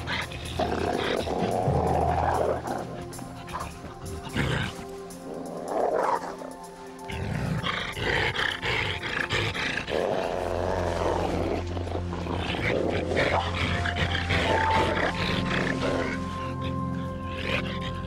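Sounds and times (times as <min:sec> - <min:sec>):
animals snarling while fighting: 0:00.0 - 0:18.0
background music with low drone: 0:00.0 - 0:18.0.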